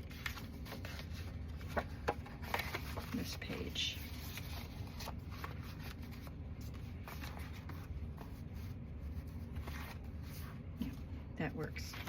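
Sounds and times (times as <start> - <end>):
paper pages rustling: 0.0 - 12.0
steady low hum: 0.0 - 12.0.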